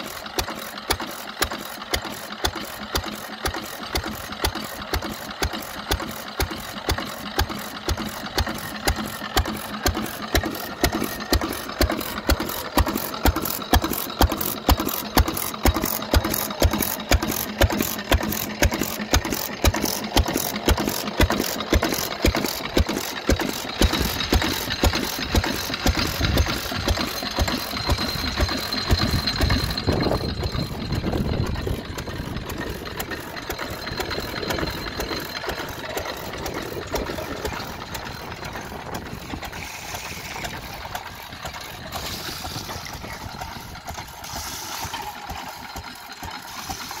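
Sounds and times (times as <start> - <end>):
stationary engine running: 0.0 - 47.0.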